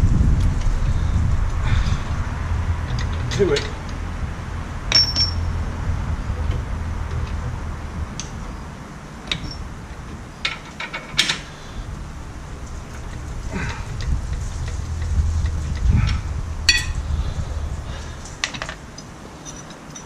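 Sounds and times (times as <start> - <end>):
low hum: 0.0 - 10.6, 11.5 - 19.3.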